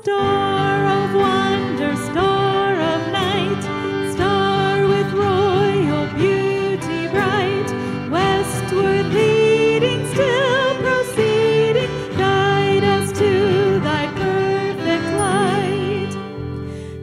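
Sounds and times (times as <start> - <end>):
woman singing: 0.0 - 16.4
acoustic guitar: 0.0 - 17.0
piano: 0.0 - 17.0.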